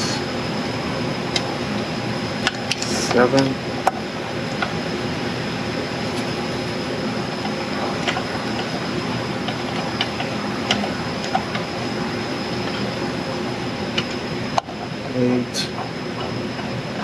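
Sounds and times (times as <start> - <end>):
mechanical whirring hum: 0.0 - 17.0.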